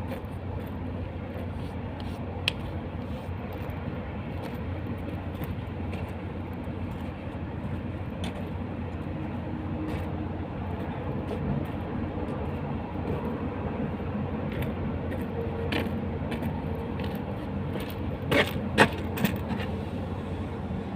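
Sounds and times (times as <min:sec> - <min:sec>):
road roller engine running: 0:00.0 - 0:20.9.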